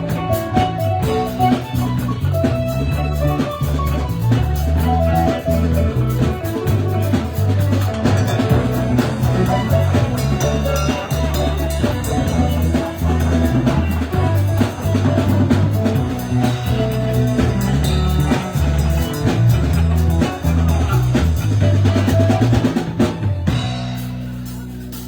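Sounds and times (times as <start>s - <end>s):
bass line: 0.0s - 25.0s
drum kit beat: 0.0s - 25.0s.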